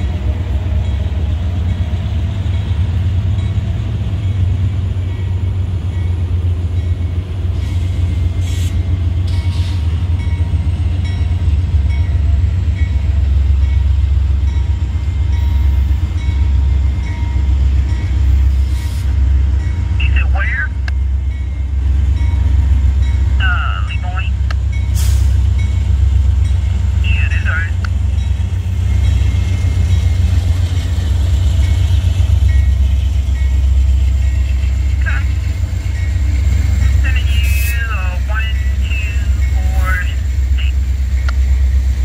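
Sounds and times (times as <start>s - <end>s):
crossing bell ringing: 0.0s - 7.3s, 8.8s - 18.5s, 19.5s - 41.8s
diesel locomotive rumble: 0.0s - 42.0s.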